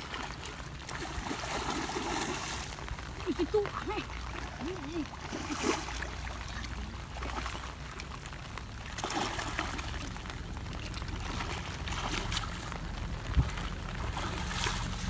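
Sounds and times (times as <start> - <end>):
muddy water sloshing and splashing: 0.0 - 15.0.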